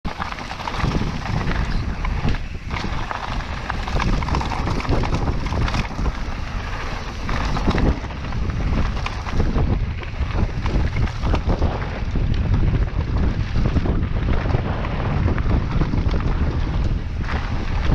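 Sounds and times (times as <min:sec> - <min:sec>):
bike rattling over rough ground: 0:00.1 - 0:17.9
wind buffeting microphone: 0:00.1 - 0:17.9.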